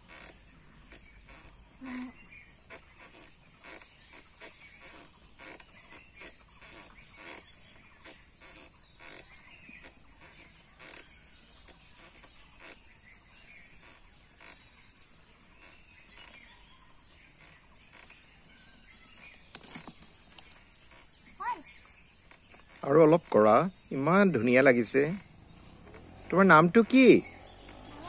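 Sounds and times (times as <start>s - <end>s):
swing ropes creaking: 0.0s - 28.0s.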